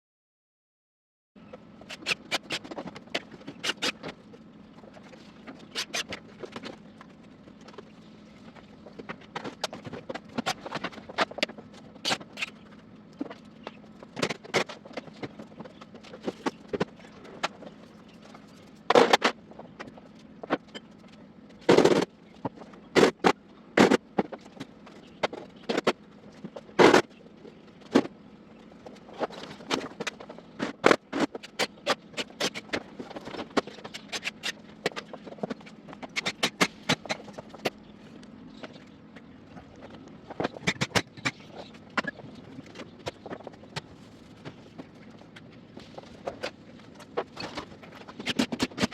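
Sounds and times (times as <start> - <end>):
faint steady hum: 1.4 - 48.9.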